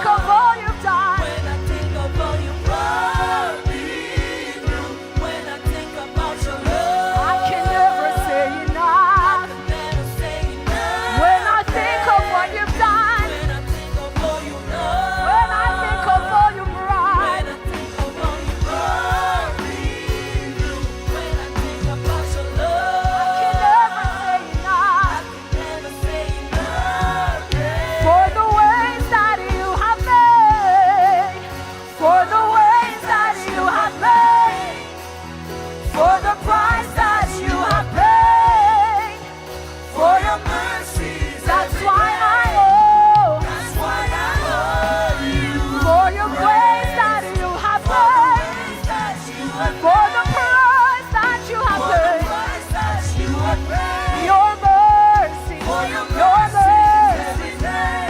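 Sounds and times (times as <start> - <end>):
gospel band playing: 0.0 - 58.0
singer with vibrato: 0.0 - 58.0.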